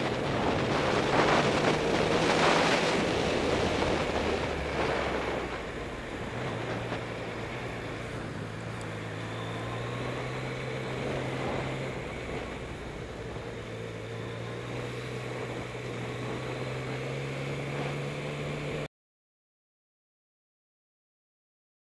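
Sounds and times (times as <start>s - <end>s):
motorcycle engine at low revs: 0.0s - 18.9s
wind and road noise: 0.0s - 18.9s.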